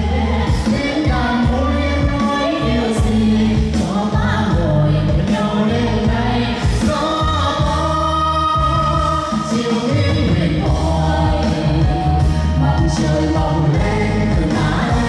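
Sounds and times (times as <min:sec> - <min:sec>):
bass and drum beat: 0:00.0 - 0:15.0
pop song singing: 0:00.0 - 0:15.0.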